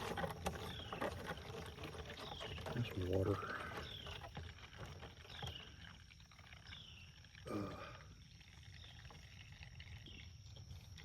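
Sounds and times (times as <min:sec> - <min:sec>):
fuel trickling into a plastic jug: 0:00.0 - 0:11.0.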